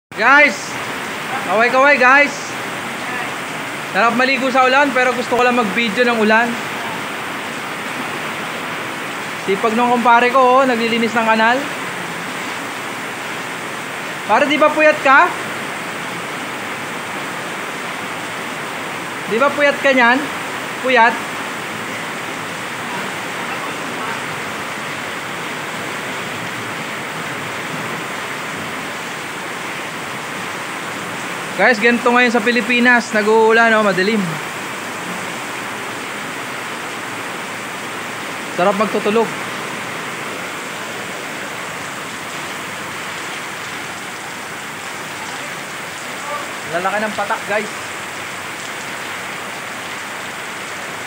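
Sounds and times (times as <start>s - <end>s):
heavy rain pouring: 0.1s - 51.0s.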